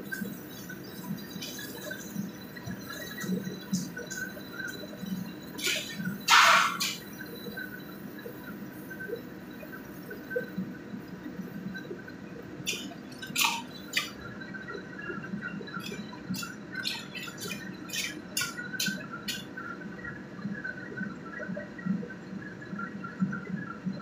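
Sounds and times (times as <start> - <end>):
food sizzling and bubbling in wok: 0.0 - 23.2.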